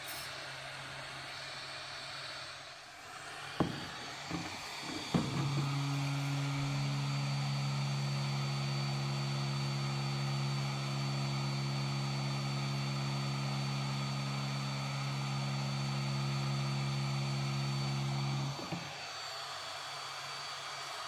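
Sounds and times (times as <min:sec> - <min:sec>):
hot air gun fan blowing: 0:00.0 - 0:21.0.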